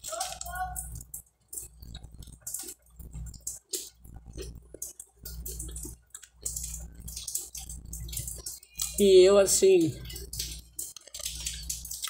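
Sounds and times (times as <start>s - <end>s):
chewing crisp toasted bread: 0.0s - 12.0s.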